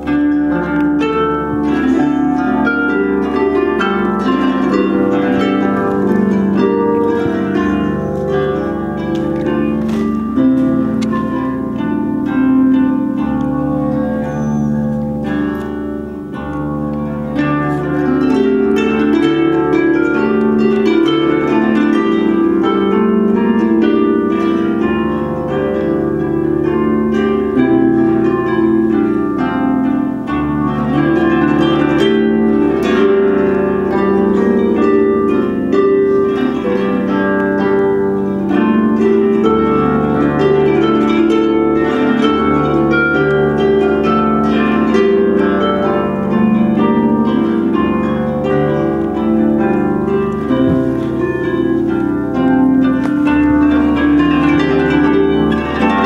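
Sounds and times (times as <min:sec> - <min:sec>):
solo harp music: 0:00.0 - 0:56.0.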